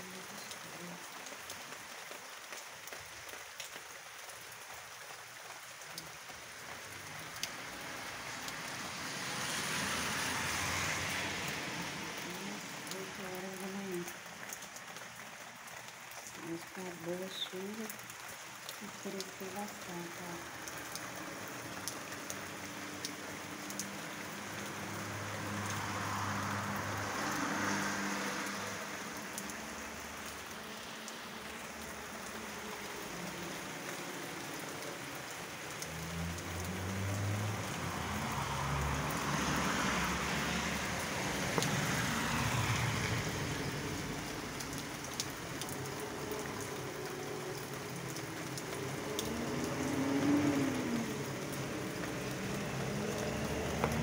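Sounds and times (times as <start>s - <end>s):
steady rain falling: 0.0s - 54.0s
traffic on wet road: 0.0s - 54.0s.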